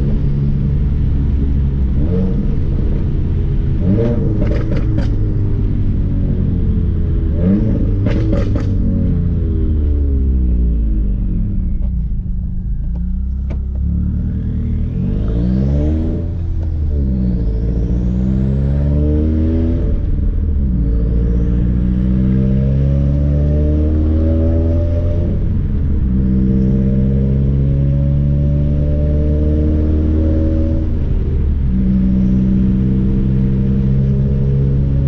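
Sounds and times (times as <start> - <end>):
car engine accelerating through gears: 0.0 - 35.0.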